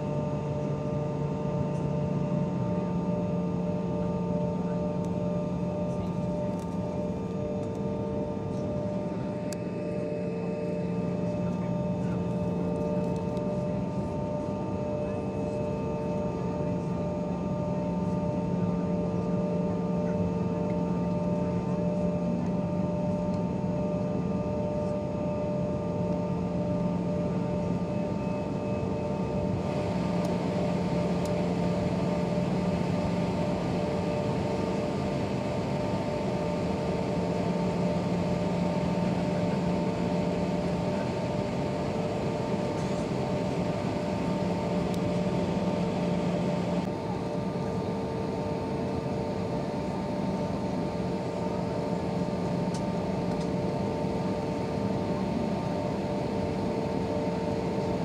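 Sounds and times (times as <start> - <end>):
aircraft cabin ventilation drone: 0.0 - 58.0
steady hum tones: 0.0 - 58.0.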